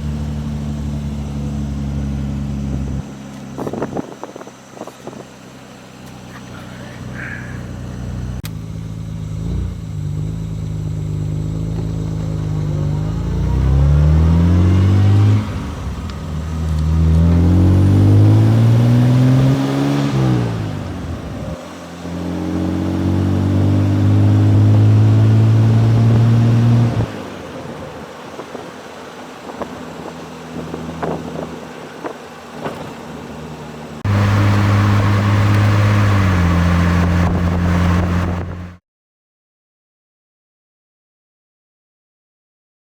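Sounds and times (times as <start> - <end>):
car engine accelerating: 0.0 - 38.8.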